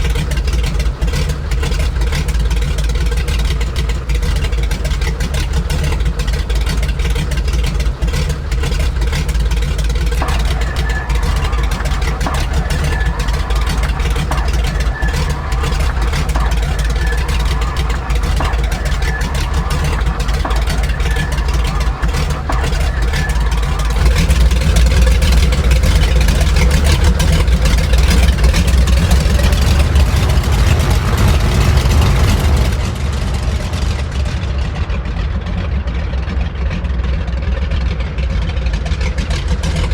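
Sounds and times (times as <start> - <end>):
aircraft radial engines running: 0.0 - 39.9.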